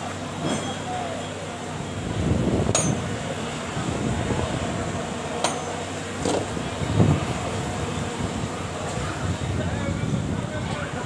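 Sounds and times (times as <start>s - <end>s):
outdoor background hubbub: 0.0s - 11.0s.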